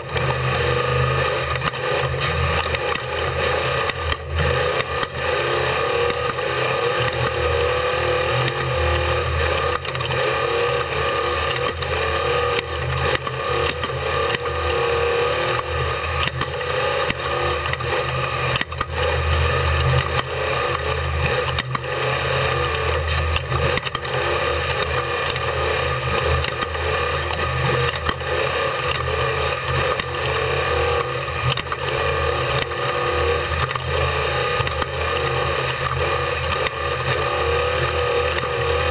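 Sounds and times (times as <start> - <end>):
truck engine running hard: 0.0 - 38.9.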